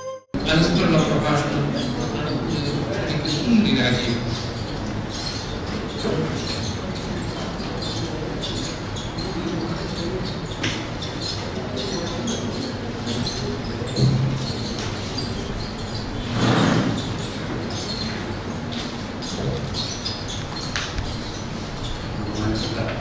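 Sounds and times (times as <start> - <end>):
murmur of voices: 0.4 - 23.0.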